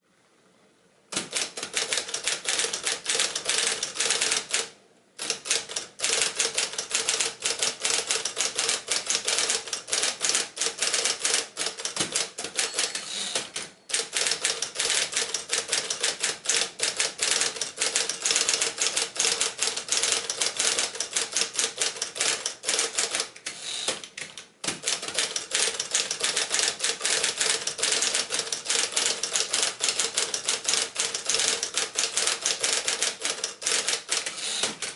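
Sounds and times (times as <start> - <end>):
typewriter key strikes: 1.2 - 23.3, 24.6 - 34.9
typewriter motor hum: 1.2 - 34.9.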